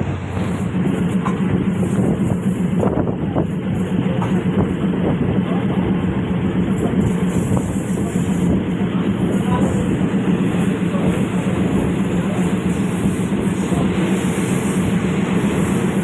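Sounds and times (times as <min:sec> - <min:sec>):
train engine drone: 0:00.0 - 0:16.0
wheels on rails: 0:00.0 - 0:16.0.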